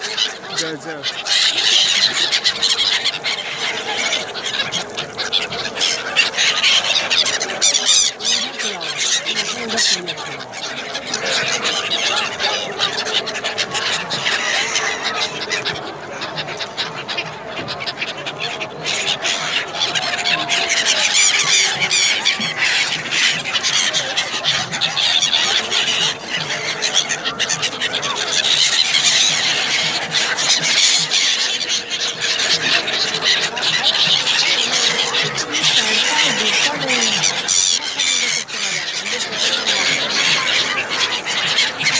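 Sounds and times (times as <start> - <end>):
flock of gulls calling: 0.0 - 41.9.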